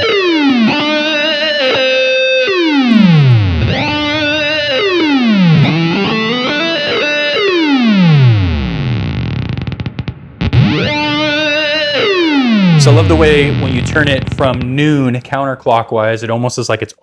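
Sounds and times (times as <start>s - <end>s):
buzzy synth guitar notes swooping down: 0.0s - 15.4s.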